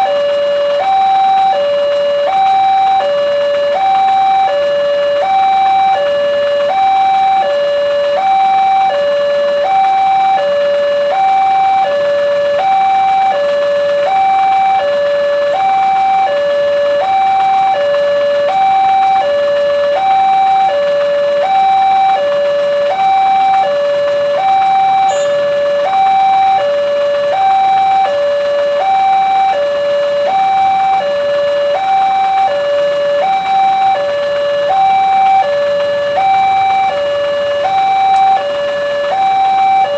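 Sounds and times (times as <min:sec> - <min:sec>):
two-tone electronic crossing alarm: 0:00.0 - 0:39.9.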